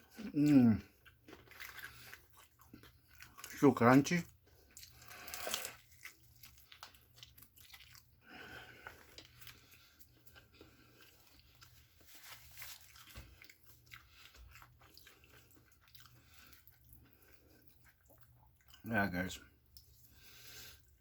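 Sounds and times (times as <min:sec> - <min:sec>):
person chewing crispy food: 0:00.0 - 0:21.0.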